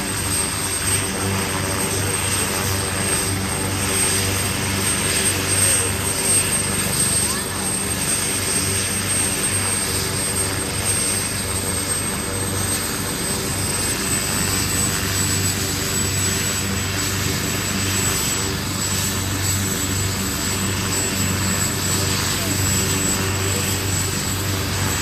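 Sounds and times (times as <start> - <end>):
helicopter rotor and engine drone: 0.0 - 25.0
turbine whine: 0.0 - 25.0.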